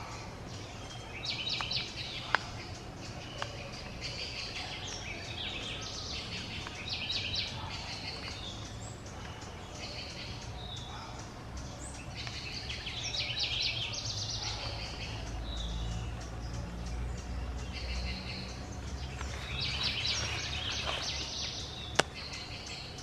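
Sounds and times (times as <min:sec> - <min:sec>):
birds chirping and chattering: 0:00.0 - 0:23.0.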